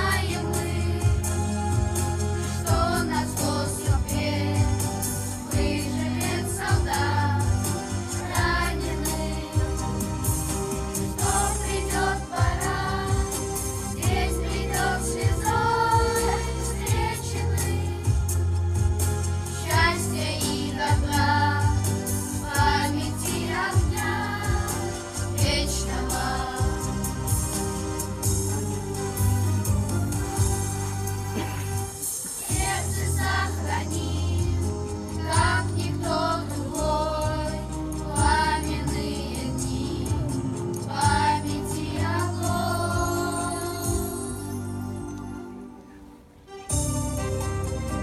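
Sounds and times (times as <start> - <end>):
choir singing over music: 0.0 - 46.1.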